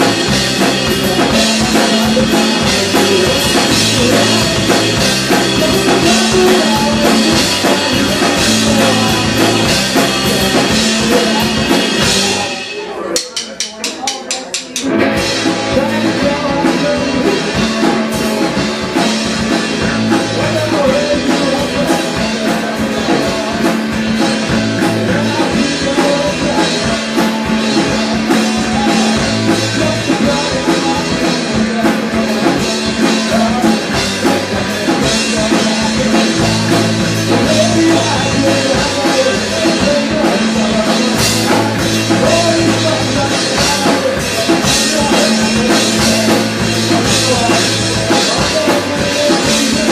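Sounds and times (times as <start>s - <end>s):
electric bass: 0.0s - 12.9s, 14.8s - 49.9s
electric guitar: 0.0s - 13.0s, 14.7s - 49.9s
drum kit beat: 0.0s - 49.9s
man singing lead vocal: 0.0s - 49.9s.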